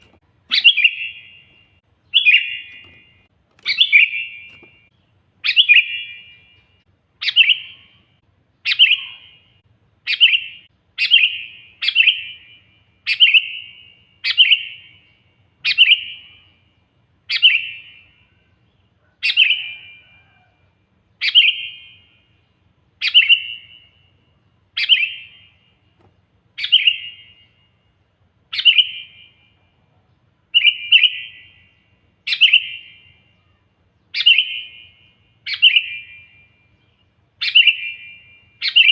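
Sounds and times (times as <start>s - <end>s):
bulbul calling: 0.0s - 16.5s, 17.3s - 18.1s, 19.2s - 20.3s, 21.2s - 22.2s, 23.0s - 24.0s, 24.8s - 25.6s, 26.6s - 27.6s, 28.5s - 29.6s, 30.5s - 38.9s.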